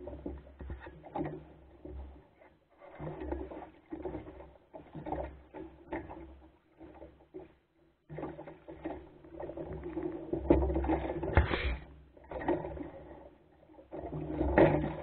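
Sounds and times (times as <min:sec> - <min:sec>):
knocks and clatter from boat: 0:00.0 - 0:15.0
water lapping against hull: 0:00.0 - 0:15.0.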